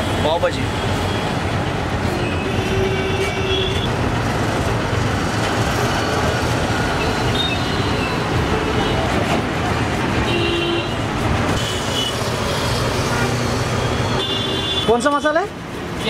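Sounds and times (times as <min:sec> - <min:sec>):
road traffic din: 0:00.0 - 0:16.0.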